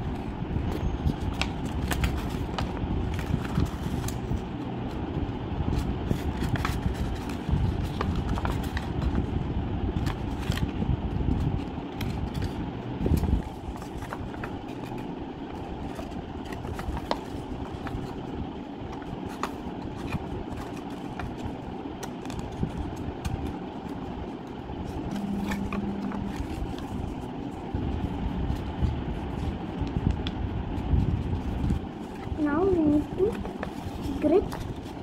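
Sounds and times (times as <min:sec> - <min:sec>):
low background rumble: 0:00.0 - 0:35.0
paper folding and creasing: 0:00.0 - 0:35.0.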